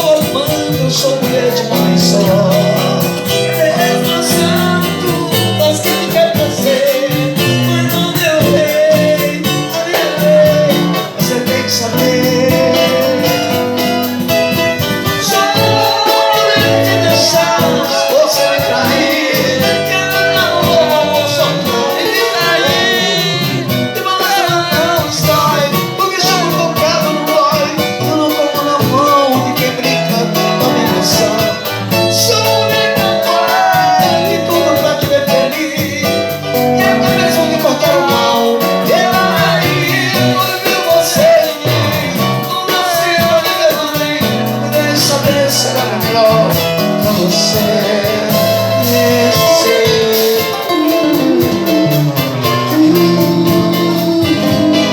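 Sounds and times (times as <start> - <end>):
guitar: 0.0 - 54.9
person singing: 0.0 - 54.9.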